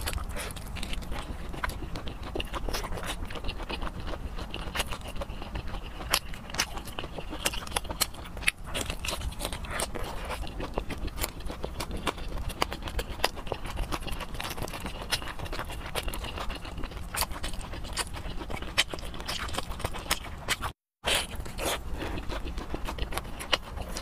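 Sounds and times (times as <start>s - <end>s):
wet chewing and lip smacking: 0.0s - 24.0s.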